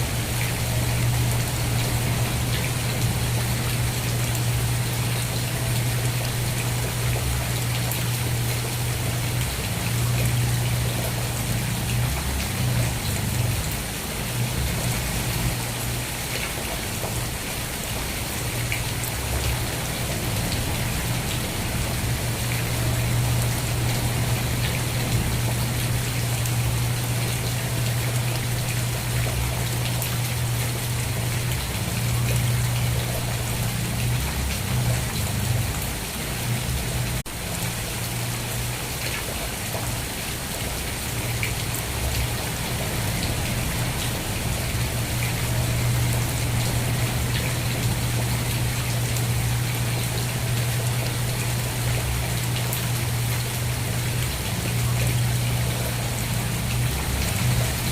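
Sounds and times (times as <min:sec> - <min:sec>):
rain patter: 0:00.0 - 0:57.9.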